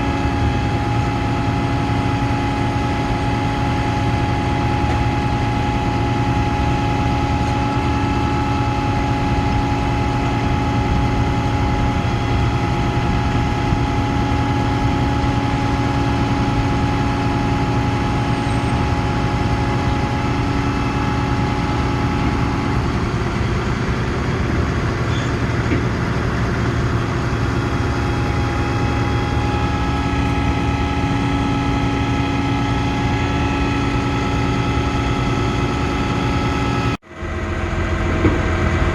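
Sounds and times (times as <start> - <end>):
steady whine: 0.0 - 38.9
truck engine running: 0.0 - 38.9.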